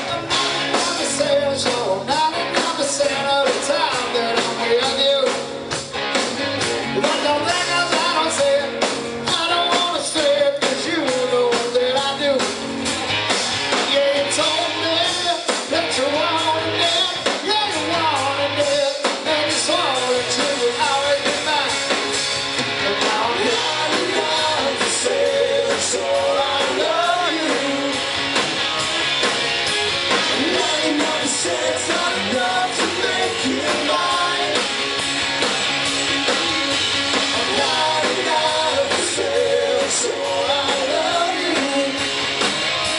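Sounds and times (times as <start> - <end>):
lead singer: 0.0 - 5.8, 6.6 - 28.8, 29.8 - 42.9
live rock band playing: 0.0 - 42.9.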